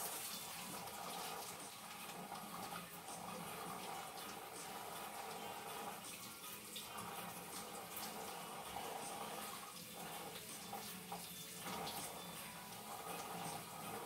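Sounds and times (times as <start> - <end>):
tap running water: 0.0 - 14.0.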